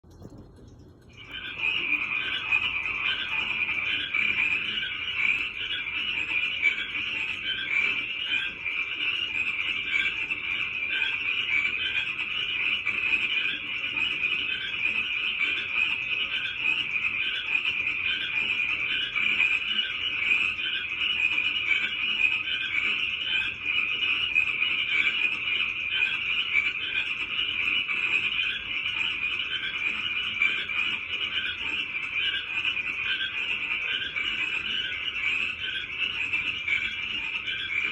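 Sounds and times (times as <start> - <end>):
chorus of frogs calling: 0.2 - 37.9.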